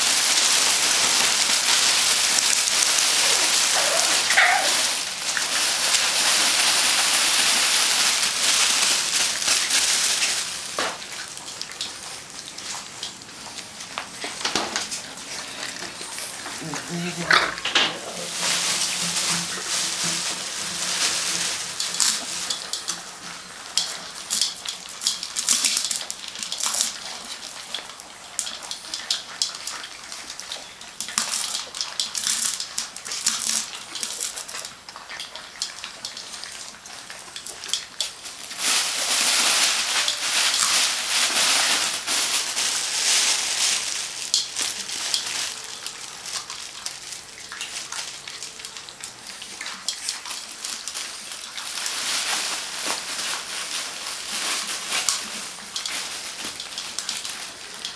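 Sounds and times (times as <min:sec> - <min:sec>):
kibble rattling in metal dish: 0:00.0 - 0:48.7, 0:49.6 - 0:57.9.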